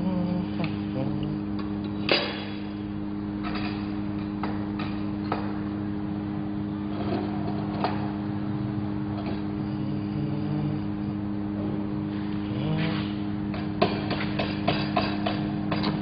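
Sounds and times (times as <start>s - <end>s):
welding machine hum: 0.0s - 16.0s.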